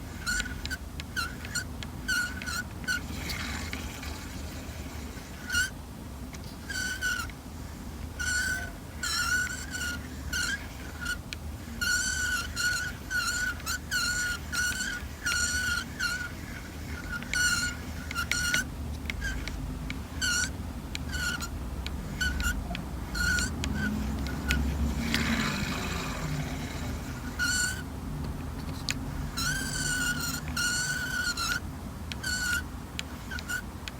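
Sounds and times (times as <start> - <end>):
reel grinding rasp: 0.0 - 5.8, 6.4 - 27.9, 28.7 - 33.7
fishing reel squeaking: 0.1 - 5.8, 6.4 - 27.9, 28.7 - 33.7.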